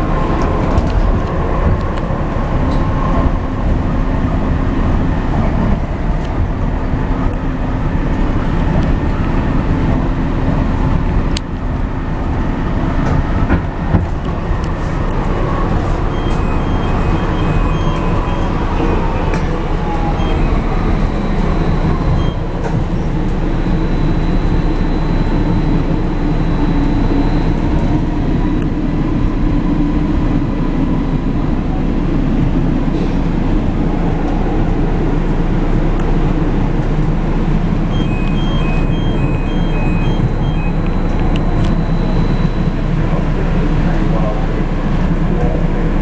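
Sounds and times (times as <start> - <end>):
light-rail train rumble: 0.0 - 46.0.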